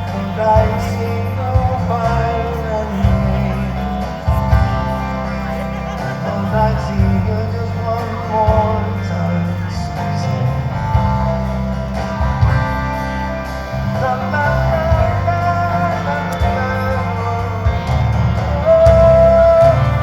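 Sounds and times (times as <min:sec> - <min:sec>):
acoustic guitar: 0:00.0 - 0:20.0
bass: 0:00.0 - 0:20.0.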